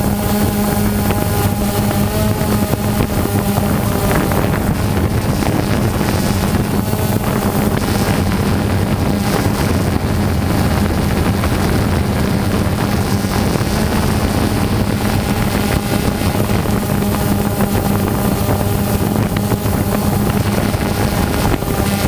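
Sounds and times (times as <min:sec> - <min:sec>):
drone propellers droning: 0:00.0 - 0:22.0
wind buffeting microphone: 0:00.0 - 0:22.0.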